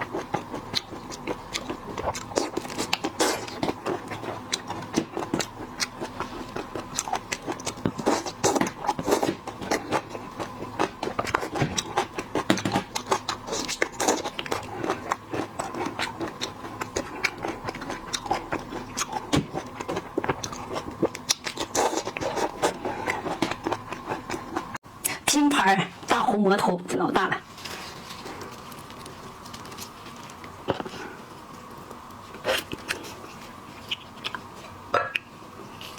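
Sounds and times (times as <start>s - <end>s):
chewing: 0.0s - 24.8s, 27.6s - 35.9s.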